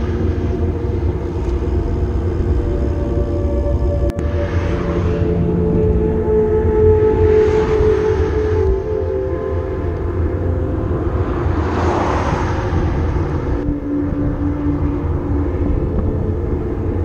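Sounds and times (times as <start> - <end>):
low road noise rumble: 0.0 - 17.0
wind on microphone: 0.0 - 17.0.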